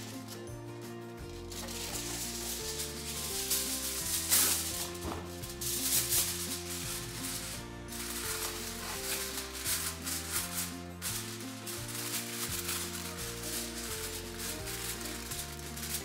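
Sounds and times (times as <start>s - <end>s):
aluminium foil rustling and crinkling: 0.0s - 0.4s, 1.3s - 16.0s
background music: 0.0s - 16.0s.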